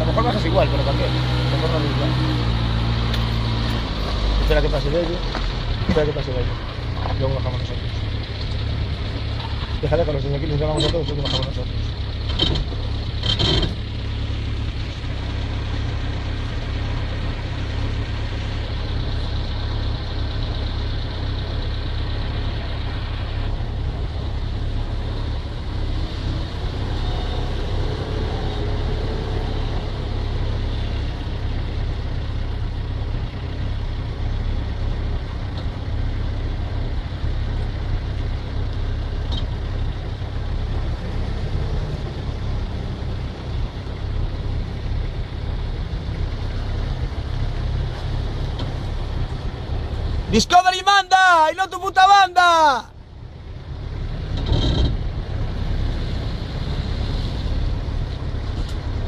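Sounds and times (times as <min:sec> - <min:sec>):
off-road engines idling: 0:00.0 - 0:59.0.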